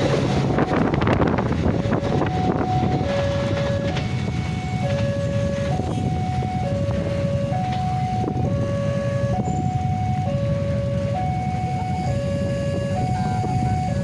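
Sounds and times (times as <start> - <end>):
two-tone crossing alarm: 0.0 - 14.0.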